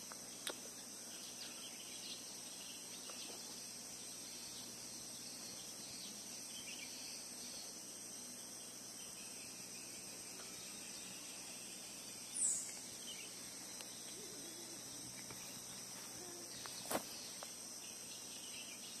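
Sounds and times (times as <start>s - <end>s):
insects chorus: 0.0s - 19.0s.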